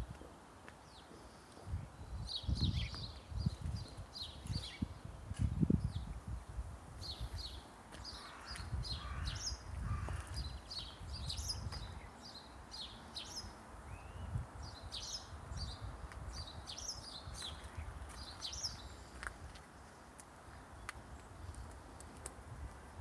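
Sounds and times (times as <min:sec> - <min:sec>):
small birds chirping: 0:00.8 - 0:06.2, 0:07.0 - 0:22.3.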